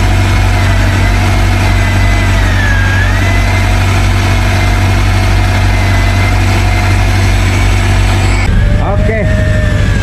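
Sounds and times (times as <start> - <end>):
boat engine low drone: 0.0 - 10.0
high whine: 0.0 - 10.0.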